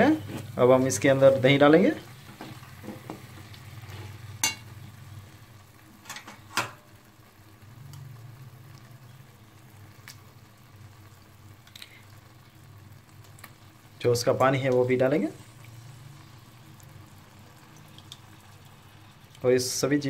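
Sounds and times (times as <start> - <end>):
paste sizzling in a wok: 0.0 - 6.1, 6.8 - 19.8.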